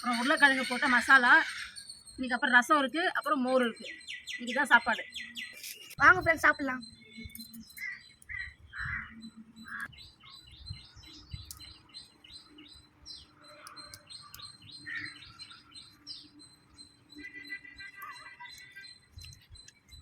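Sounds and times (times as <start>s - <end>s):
small birds chirping: 0.0s - 20.0s
steadier bird call: 0.0s - 20.0s.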